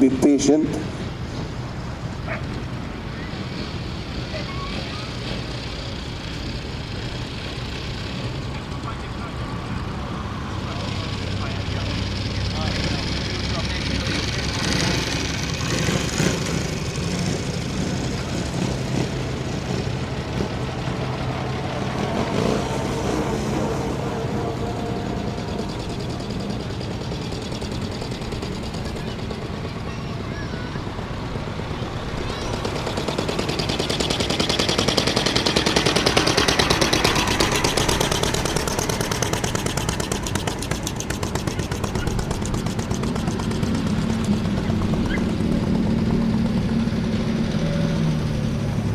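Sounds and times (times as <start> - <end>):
vehicle engine idling hum: 0.0 - 48.9.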